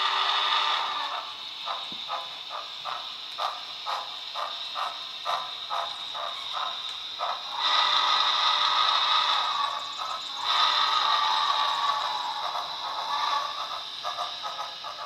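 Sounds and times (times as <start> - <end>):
model steam chuffs from speaker: 0.0 - 15.0
steam hiss: 0.0 - 15.0.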